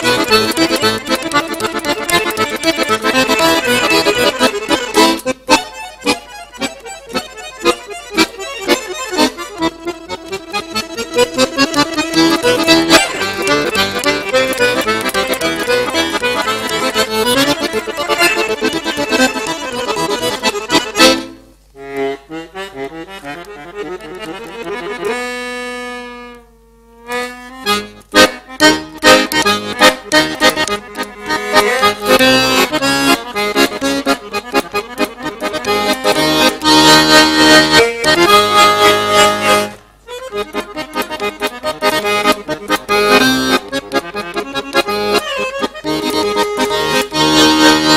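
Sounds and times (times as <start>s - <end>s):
accordion playing: 0.0s - 47.9s.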